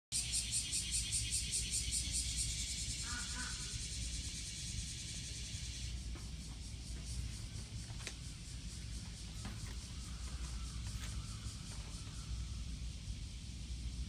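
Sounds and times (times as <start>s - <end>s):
cicadas buzzing: 0.1s - 14.0s
steady low rumble: 0.8s - 14.0s.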